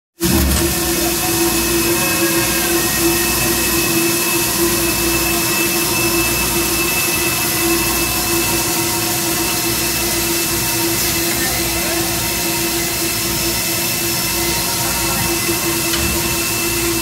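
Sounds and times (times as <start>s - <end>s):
steam locomotive hissing: 0.2s - 17.0s.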